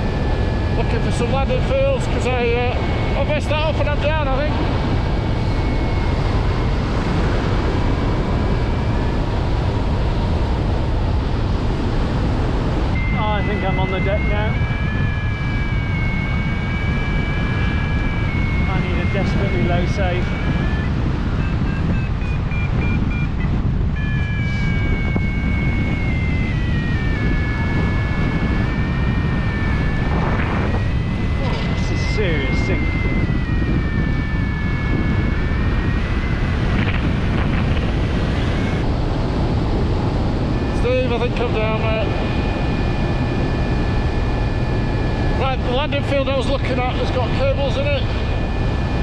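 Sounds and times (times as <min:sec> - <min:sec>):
variometer beeps and tone: 0:00.0 - 0:10.7, 0:12.9 - 0:49.0
wind rushing over microphone: 0:00.0 - 0:49.0.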